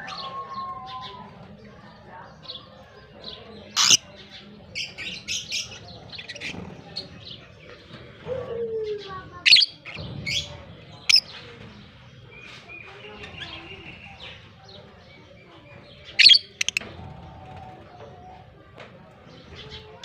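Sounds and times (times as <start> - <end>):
lovebirds chirping: 0.0 - 16.9.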